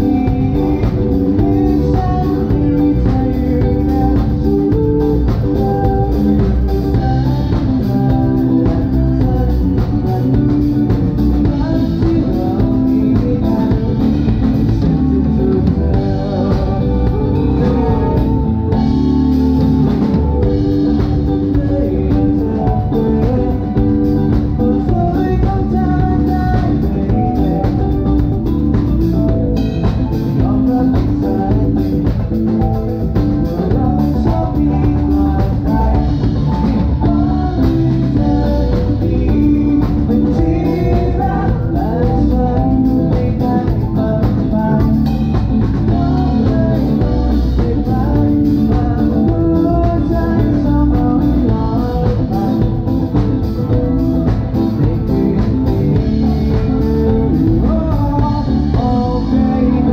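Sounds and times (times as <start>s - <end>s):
drum kit: 0.0s - 59.9s
guitar: 0.0s - 59.9s
person singing: 0.0s - 59.9s.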